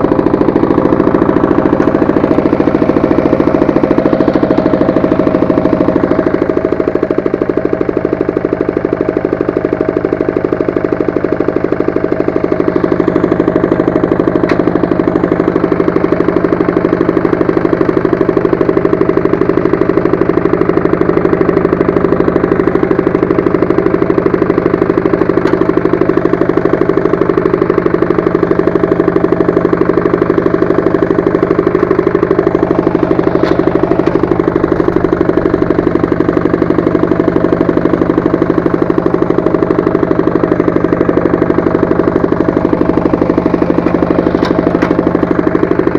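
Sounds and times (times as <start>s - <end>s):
single-cylinder engine running: 0.0s - 45.9s.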